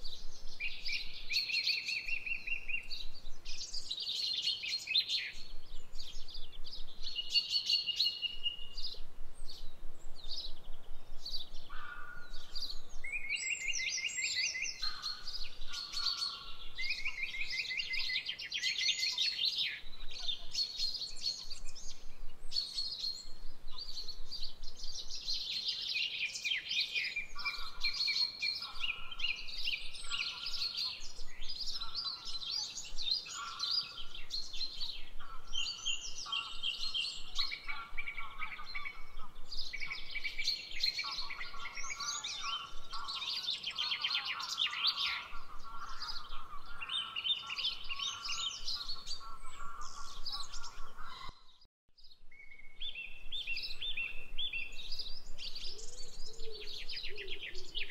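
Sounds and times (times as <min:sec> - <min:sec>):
songbirds chorus: 0:00.0 - 0:57.9
low repeating bird call: 0:04.5 - 0:51.7.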